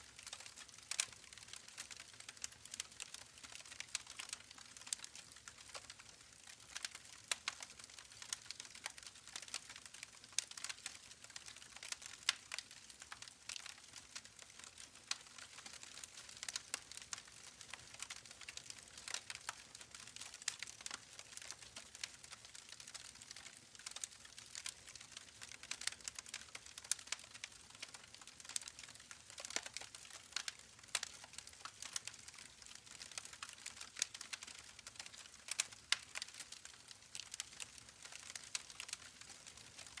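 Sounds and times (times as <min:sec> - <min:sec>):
campfire crackling: 0:00.1 - 0:40.0.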